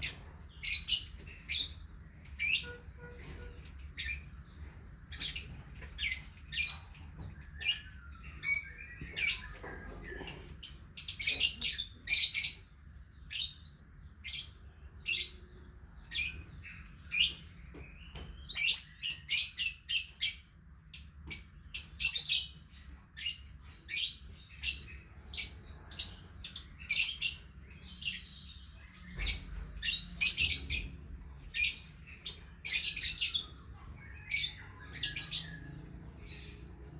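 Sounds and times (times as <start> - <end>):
songbird chirping: 0.0 - 36.9.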